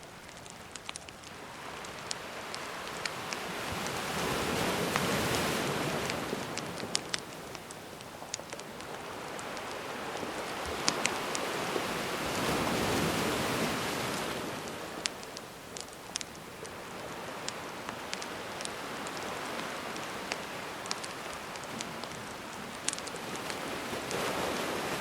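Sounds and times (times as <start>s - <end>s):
campfire crackling and popping: 0.0s - 25.0s
sea waves washing in: 0.0s - 25.0s.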